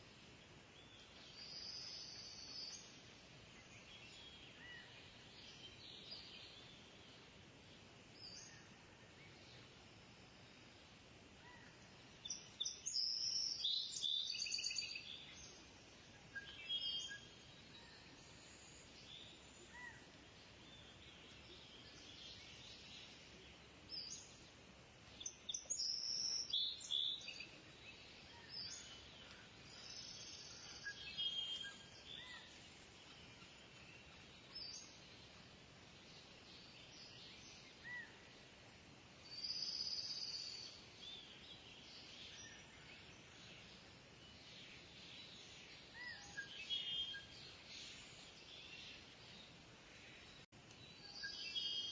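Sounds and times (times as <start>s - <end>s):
faint outdoor hiss: 0.0s - 51.9s.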